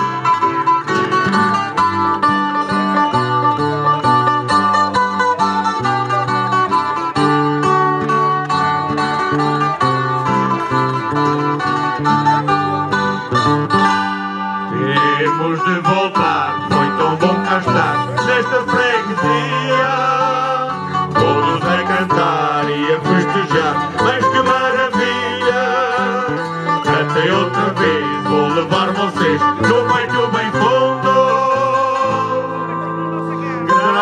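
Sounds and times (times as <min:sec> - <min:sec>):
acoustic guitars playing folk tune: 0:00.0 - 0:34.0.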